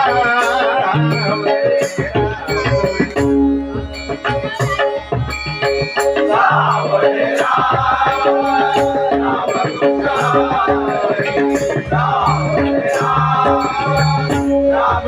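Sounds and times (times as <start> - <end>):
person singing: 0.0 - 3.4, 6.1 - 15.0
drum strokes: 0.0 - 15.0
harmonium notes: 0.0 - 15.0.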